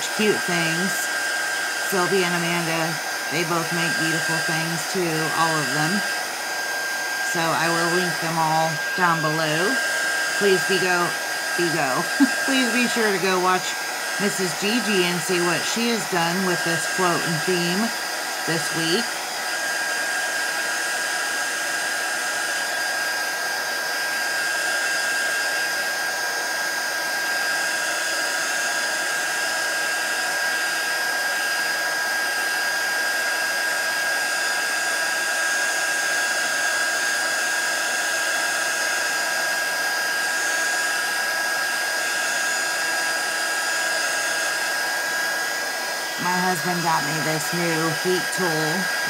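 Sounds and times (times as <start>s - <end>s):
heat tool blowing air: 0.0s - 49.0s.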